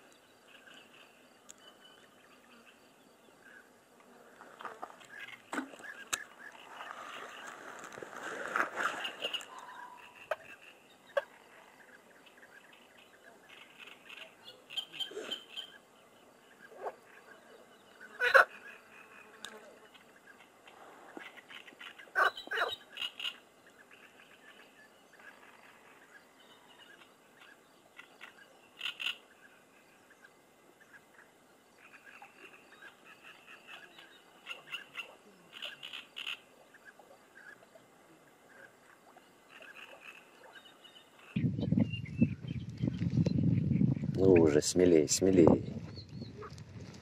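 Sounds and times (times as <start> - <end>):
frogs croaking: 0.0 - 47.0
birds calling: 5.0 - 47.0.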